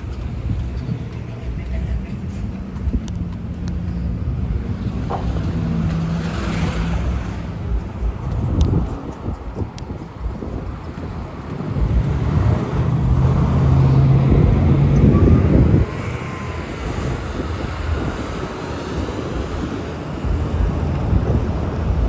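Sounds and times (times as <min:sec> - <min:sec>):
bus diesel engine droning: 0:00.0 - 0:22.0
traffic noise: 0:00.0 - 0:22.0.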